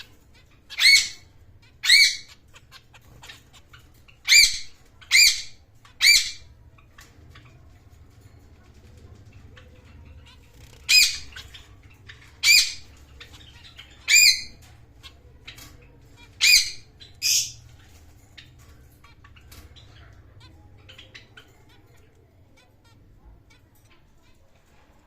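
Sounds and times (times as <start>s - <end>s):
faint small chirps and clicks: 1.9s - 24.8s.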